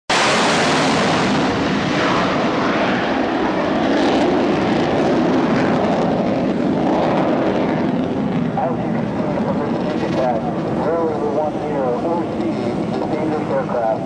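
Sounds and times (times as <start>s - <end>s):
jet aircraft rushing noise: 0.1s - 14.0s.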